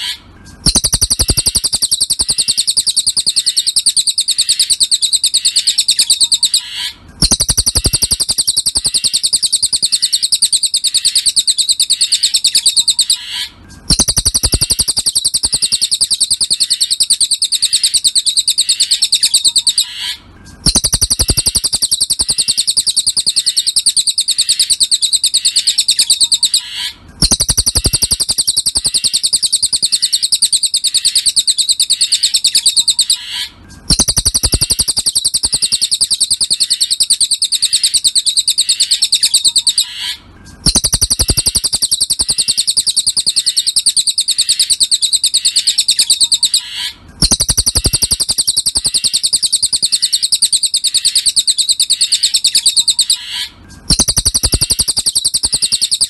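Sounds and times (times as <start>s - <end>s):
bird trilling: 0.0s - 56.0s.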